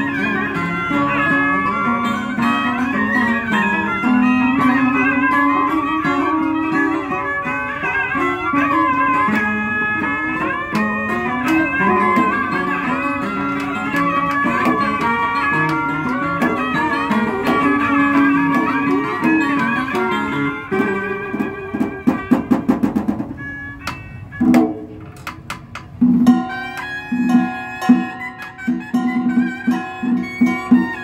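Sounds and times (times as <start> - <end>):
plucked string ensemble: 0.0 - 31.0.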